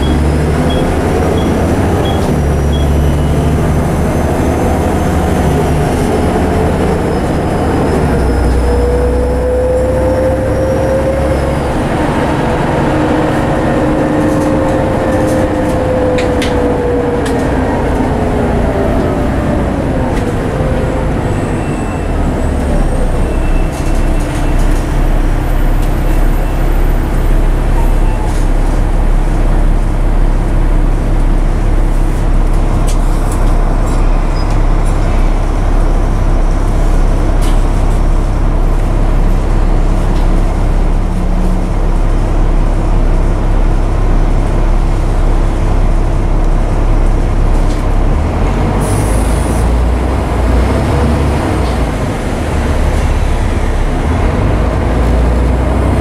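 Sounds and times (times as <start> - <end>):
bus diesel engine drone: 0.0 - 56.0
drivetrain whine: 0.0 - 56.0.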